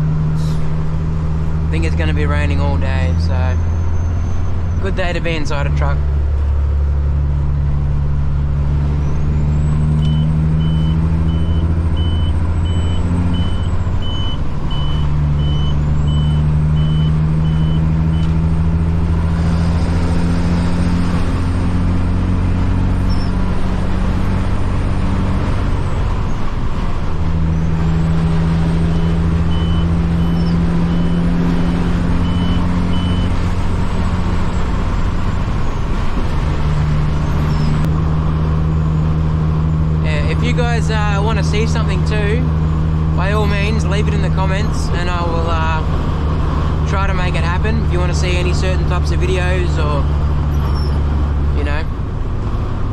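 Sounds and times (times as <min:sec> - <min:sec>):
truck engine drone from cab: 0:00.0 - 0:52.9.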